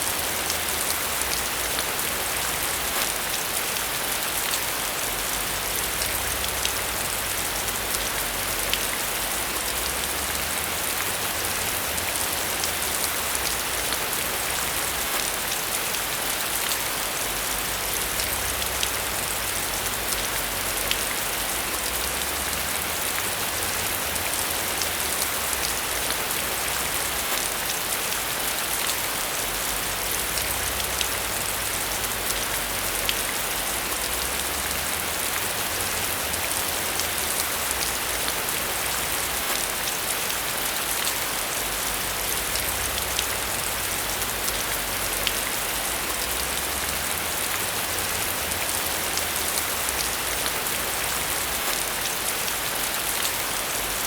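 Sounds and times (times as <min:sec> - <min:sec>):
heavy rain on hard surface: 0:00.0 - 0:54.0.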